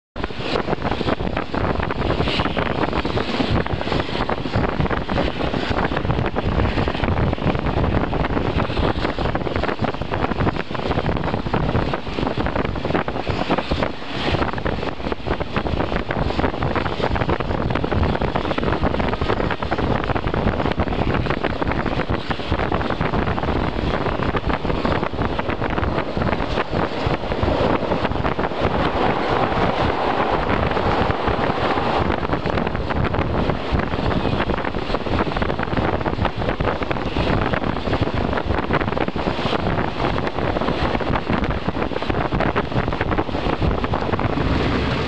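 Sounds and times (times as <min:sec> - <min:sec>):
train running on rails: 0:00.2 - 0:45.0
wind buffeting microphone: 0:00.2 - 0:45.0.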